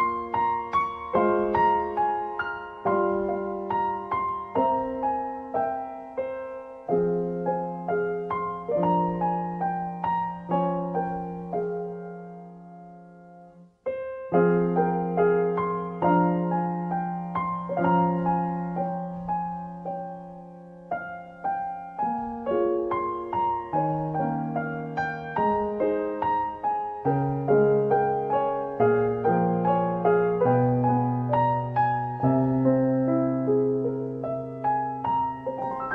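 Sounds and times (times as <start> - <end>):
gentle solo piano: 0.0 - 35.9.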